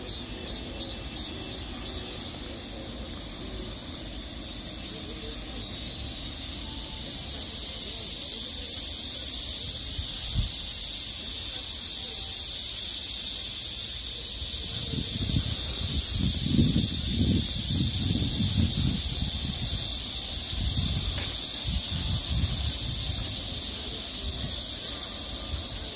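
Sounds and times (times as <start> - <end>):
shrill insect chorus: 0.0 - 25.9.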